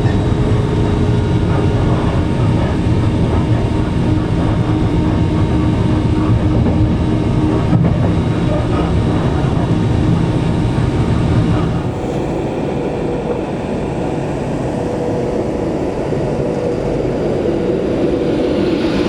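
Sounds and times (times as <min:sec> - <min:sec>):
electric train running: 0:00.0 - 0:19.0
faint steady hum: 0:00.0 - 0:19.0.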